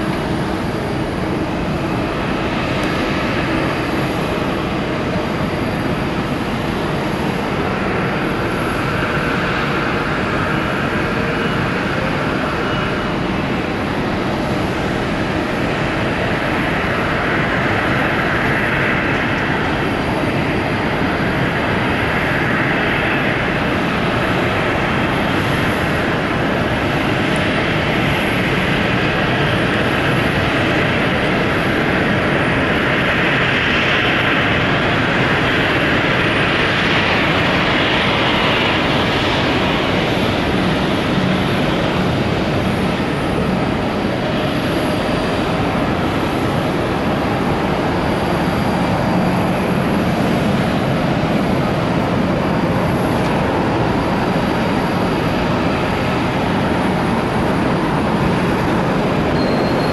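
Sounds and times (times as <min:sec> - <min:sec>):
jet engines rushing: 0:00.0 - 0:59.9.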